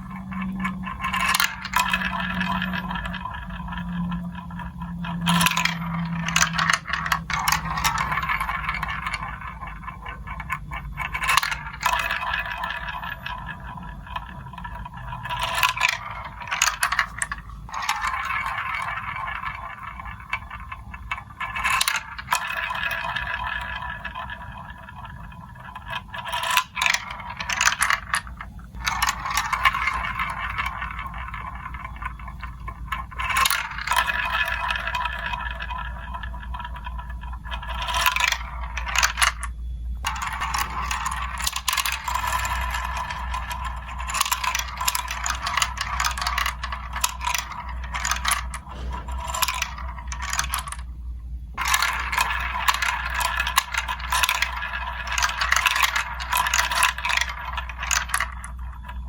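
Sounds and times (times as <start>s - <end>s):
marbles clacking against pieces: 0.0s - 59.0s
marbles rolling along track: 0.0s - 59.0s.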